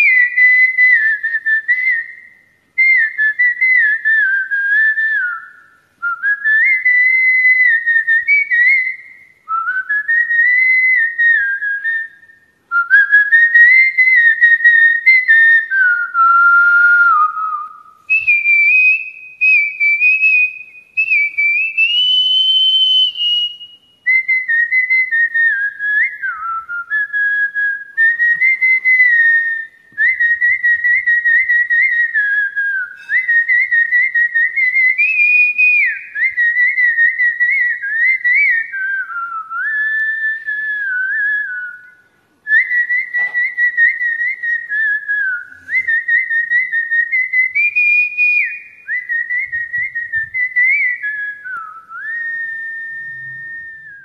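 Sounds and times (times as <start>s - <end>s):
person whistling a melody: 0.0s - 54.0s.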